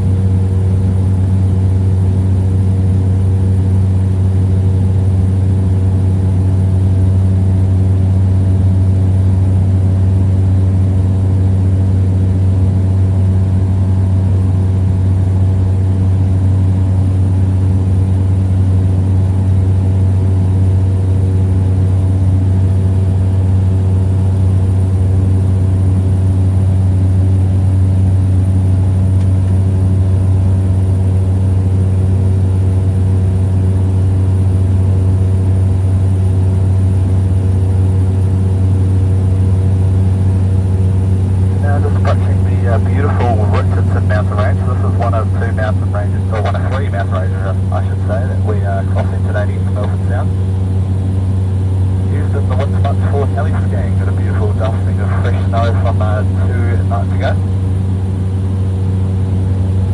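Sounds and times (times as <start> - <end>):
small plane engine drone: 0.0 - 59.9.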